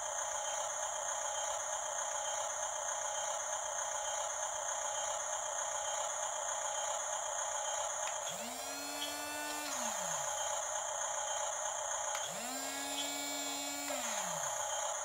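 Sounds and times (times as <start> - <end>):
toy bulldozer electric motors whining: 0.0 - 15.0.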